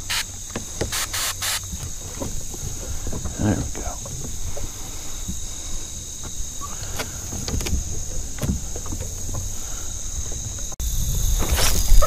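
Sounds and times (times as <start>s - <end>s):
fishing gear clicking: 0.0s - 10.8s
low wind rumble: 0.0s - 12.0s.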